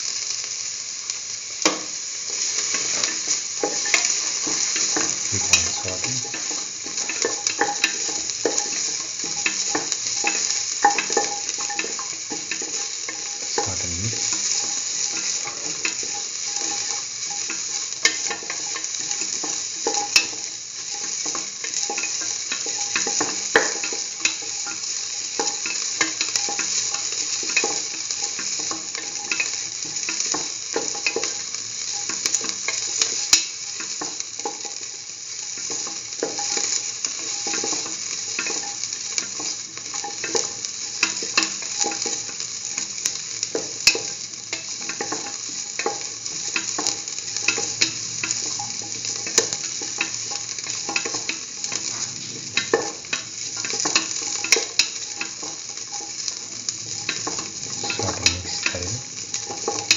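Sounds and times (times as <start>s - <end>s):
onions sizzling in hot oil: 0.0s - 59.9s.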